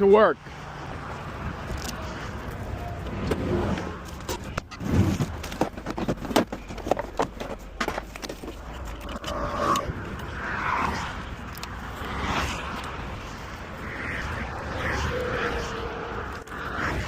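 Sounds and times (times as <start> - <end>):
low vehicle hum: 0.4 - 17.0.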